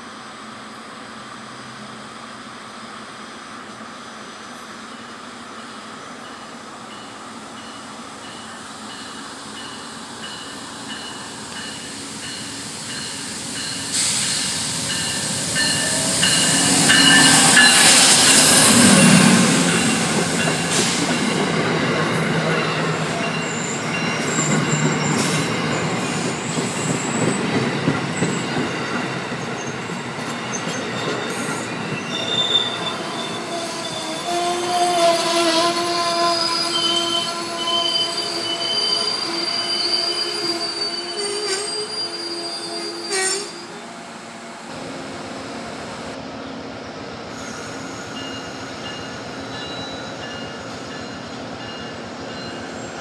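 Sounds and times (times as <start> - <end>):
train passing: 0.0 - 53.0
train wheels squealing and rumbling: 3.4 - 44.6, 47.3 - 53.0.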